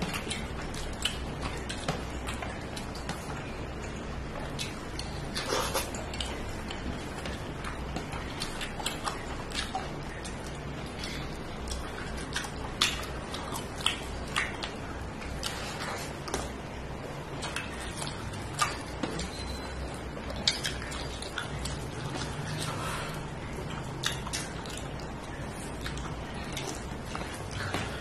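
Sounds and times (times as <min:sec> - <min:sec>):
chewing with wet lip smacks: 0:00.0 - 0:28.0
low steady hum: 0:00.0 - 0:28.0.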